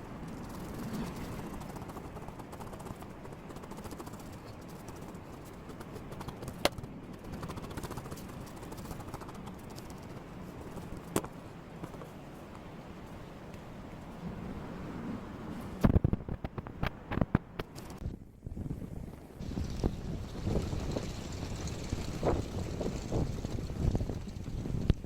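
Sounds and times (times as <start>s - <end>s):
flags flapping: 0.0s - 14.2s, 18.8s - 25.0s
wind rush: 0.0s - 25.0s.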